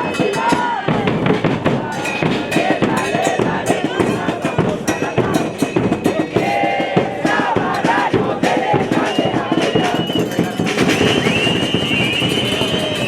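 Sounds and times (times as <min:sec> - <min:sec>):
bass drums fast rhythm: 0:00.0 - 0:13.0
crowd: 0:00.0 - 0:13.0.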